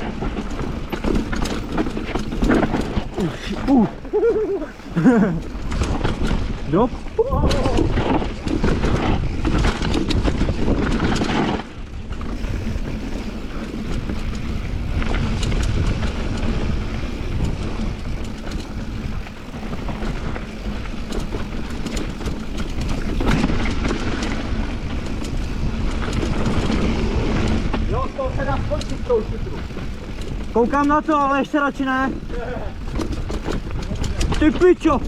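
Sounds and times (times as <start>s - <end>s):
bike rattling and knocking: 0.0s - 35.0s
bike tyres rumbling: 0.0s - 35.0s
wind buffeting microphone: 0.0s - 35.0s.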